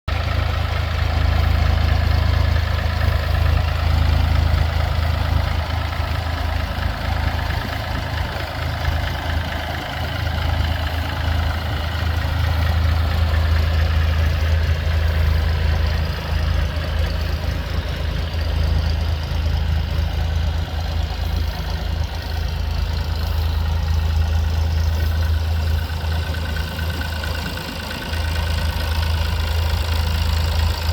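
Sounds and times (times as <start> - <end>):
diesel tractor engine idling: 0.1 - 30.9.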